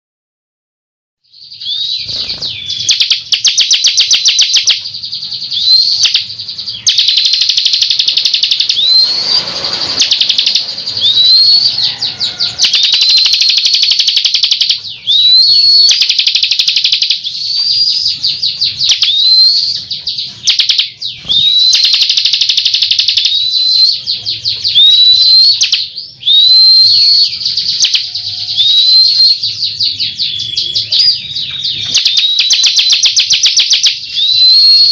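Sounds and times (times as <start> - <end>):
bird singing whistles and trills: 1.3 - 34.9.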